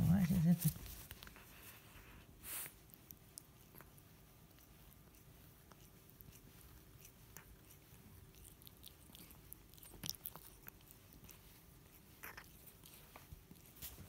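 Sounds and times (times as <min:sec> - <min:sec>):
cat licking fur: 0:00.1 - 0:14.0.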